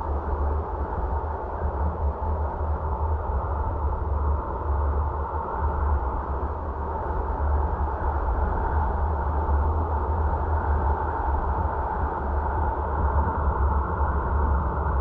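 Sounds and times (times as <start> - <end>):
car road and wind noise: 0.0 - 15.0
faint steady whine: 0.0 - 15.0.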